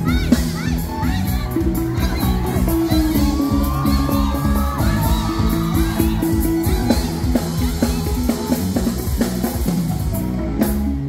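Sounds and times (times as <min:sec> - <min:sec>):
drum kit beat: 0:00.0 - 0:11.0
live band playing pop-rock: 0:00.0 - 0:11.0.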